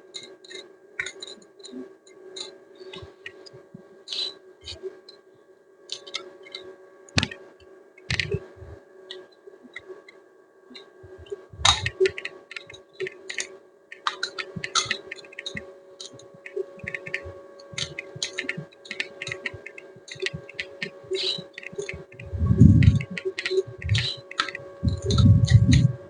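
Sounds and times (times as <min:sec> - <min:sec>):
steady hum: 0:01.0 - 0:26.0.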